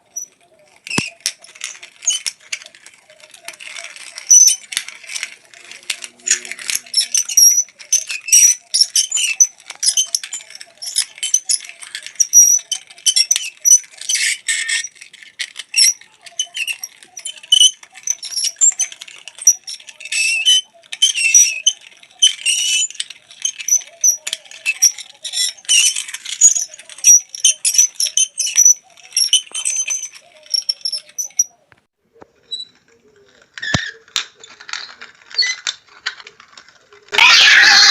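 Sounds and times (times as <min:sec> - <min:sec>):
high-pitched squeaking and creaking: 0:00.0 - 0:31.8, 0:32.4 - 0:37.9.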